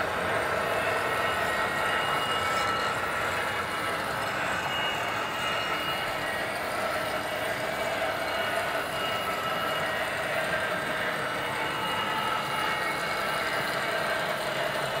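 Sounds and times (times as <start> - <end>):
model train wagons rolling: 0.0 - 15.0.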